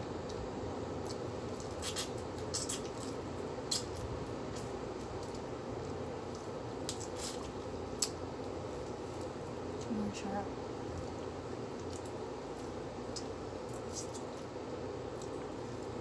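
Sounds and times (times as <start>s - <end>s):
low room hum: 0.0s - 16.0s
person chewing food: 0.2s - 9.9s, 10.8s - 16.0s.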